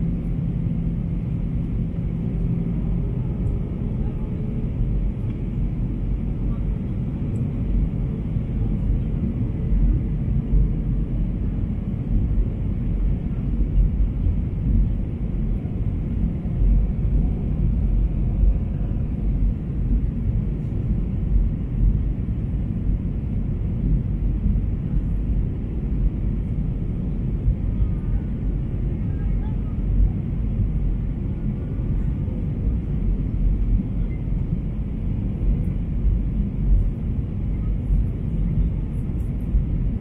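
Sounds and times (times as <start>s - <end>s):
airliner cabin rumble: 0.0s - 40.0s.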